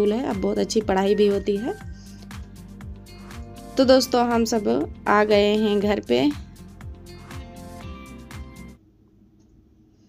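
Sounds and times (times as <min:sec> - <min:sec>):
background music with steady beat: 0:00.0 - 0:08.8.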